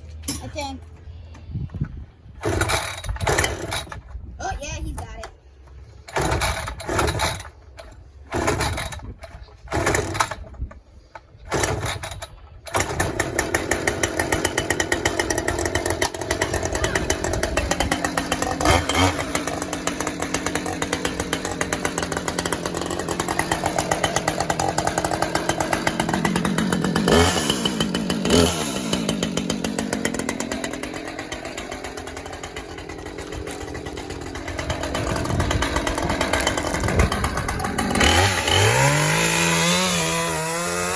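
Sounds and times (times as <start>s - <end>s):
chainsaw starting and revving: 2.4s - 4.1s, 6.0s - 10.7s, 11.4s - 40.9s.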